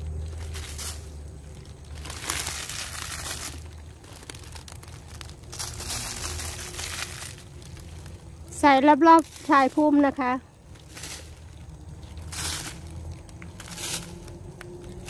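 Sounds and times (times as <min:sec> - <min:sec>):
dry leaves rustling and crinkling: 0:00.0 - 0:15.0.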